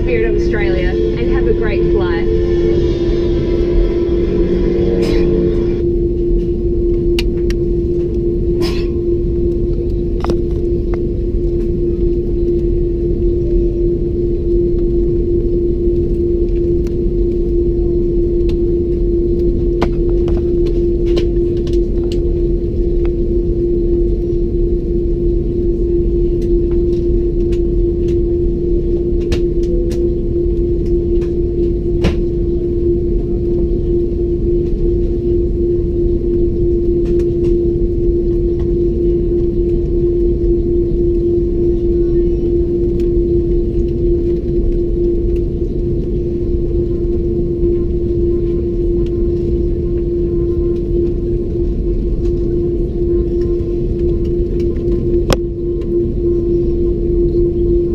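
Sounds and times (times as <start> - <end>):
aircraft cabin drone: 0.0 - 57.9.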